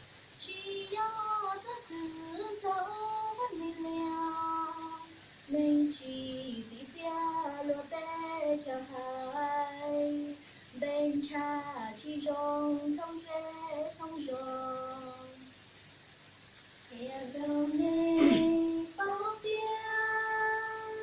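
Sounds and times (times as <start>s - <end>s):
girl singing solo: 0.4s - 15.5s, 16.9s - 21.0s.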